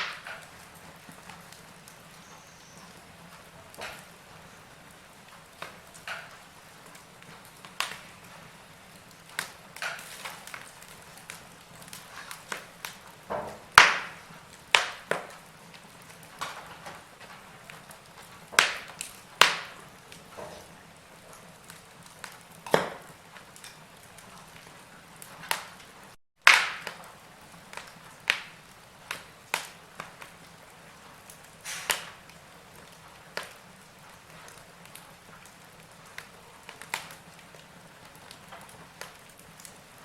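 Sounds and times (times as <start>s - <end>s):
log fire crackling: 0.0s - 40.0s.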